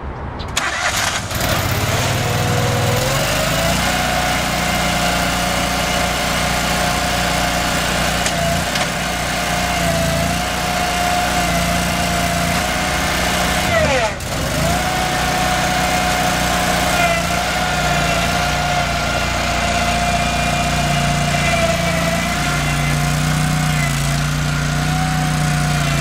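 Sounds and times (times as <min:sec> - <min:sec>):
engine running with whine: 0:00.0 - 0:26.0.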